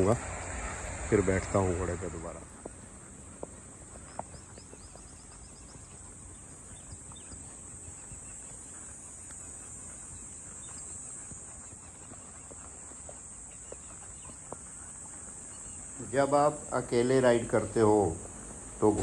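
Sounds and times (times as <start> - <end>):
bird chirps: 0.0 - 19.0
hoof steps on sand: 2.5 - 19.0.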